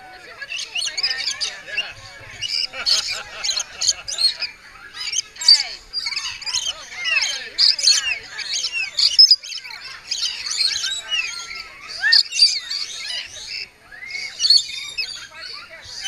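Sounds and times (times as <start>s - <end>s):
lorikeets chattering and screeching: 0.0s - 16.0s.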